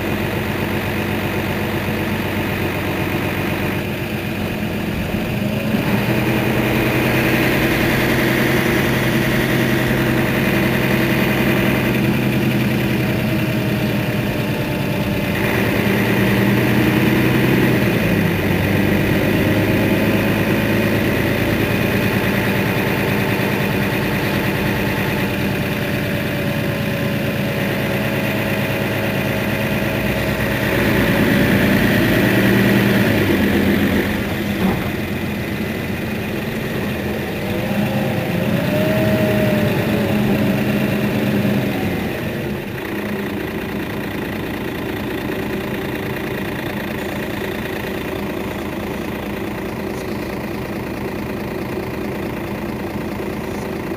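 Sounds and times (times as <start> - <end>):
bus engine idling: 0.0 - 53.9.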